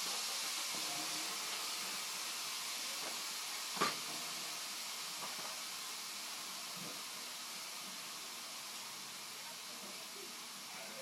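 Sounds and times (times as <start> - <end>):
steam hissing from nozzle: 0.0 - 11.0.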